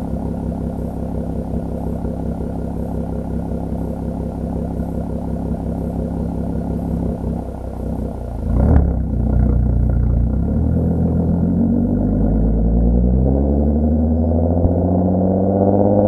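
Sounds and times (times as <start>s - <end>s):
car engine exhaust drone: 0.0s - 16.0s.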